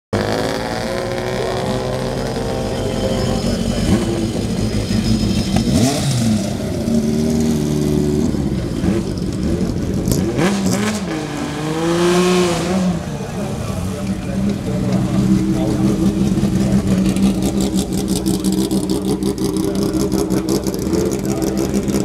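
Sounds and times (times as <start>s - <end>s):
race car engines idling: 0.2s - 22.0s.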